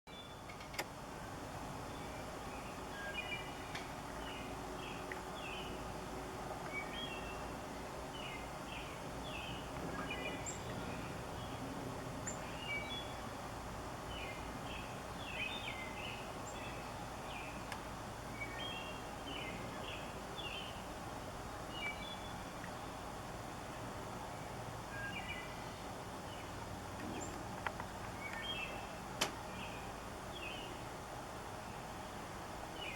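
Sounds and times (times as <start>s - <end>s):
low background noise: 0.1s - 32.9s.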